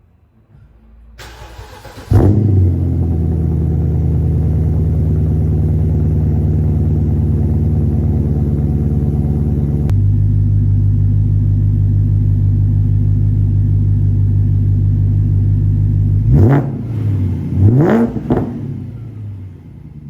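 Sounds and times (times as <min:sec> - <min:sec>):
car engine idling: 0:01.2 - 0:20.0.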